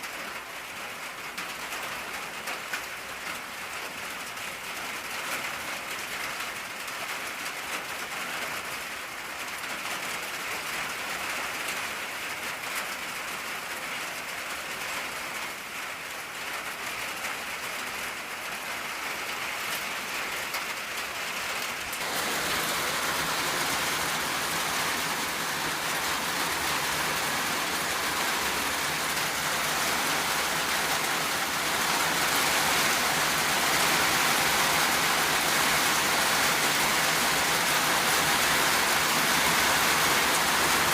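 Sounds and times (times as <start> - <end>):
rain drumming on a tin roof: 0.0 - 40.9.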